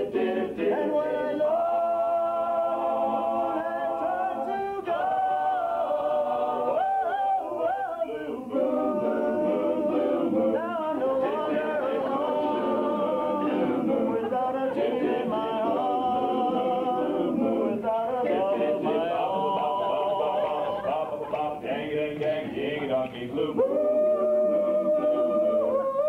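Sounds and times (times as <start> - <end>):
men's vocal group singing a cappella: 0.0 - 26.0.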